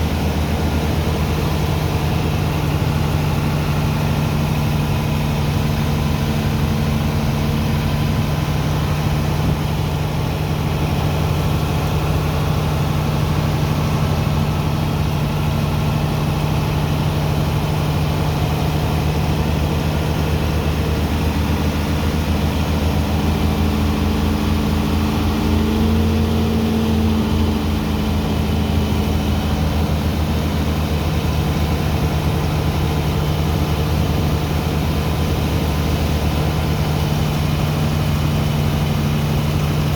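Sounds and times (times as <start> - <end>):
heavy pump engine running: 0.0 - 39.9.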